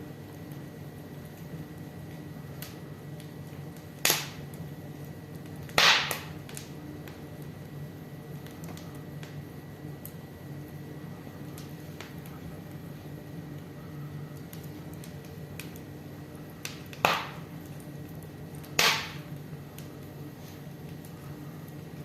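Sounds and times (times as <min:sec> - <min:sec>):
wood fire crackling: 0:00.0 - 0:22.0
loud pops from fire: 0:00.4 - 0:10.2, 0:11.4 - 0:22.0.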